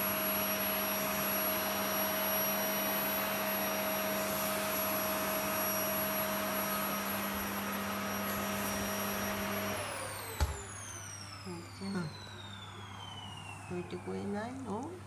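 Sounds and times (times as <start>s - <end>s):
vacuum cleaner motor whirring: 0.0s - 15.0s.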